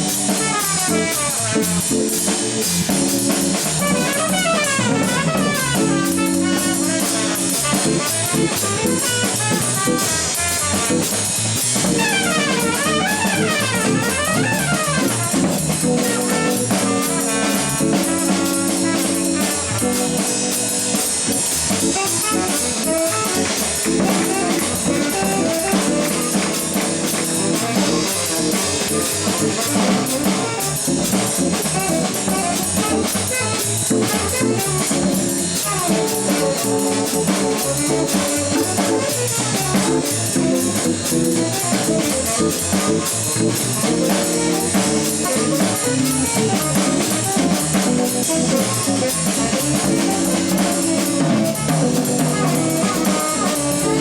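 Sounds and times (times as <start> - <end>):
organ chords: 0.0 - 54.0
steady drumming: 0.0 - 54.0
tenor saxophone: 0.0 - 54.0.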